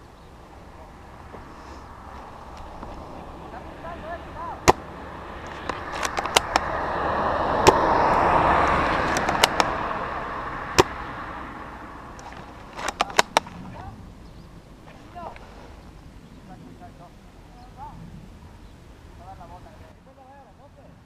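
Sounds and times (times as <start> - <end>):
broad rush of noise: 0.0 - 20.8.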